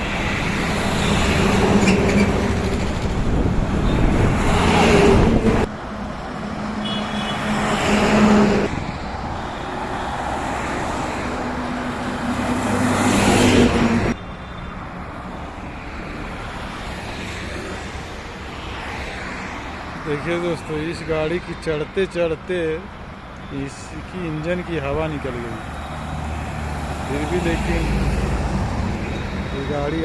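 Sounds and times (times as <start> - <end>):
heavy truck engines: 0.0 - 30.0
highway traffic noise: 0.0 - 30.0.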